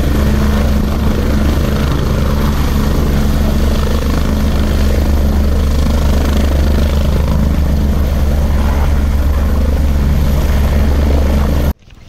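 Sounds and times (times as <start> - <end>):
helicopter drone: 0.0 - 11.8.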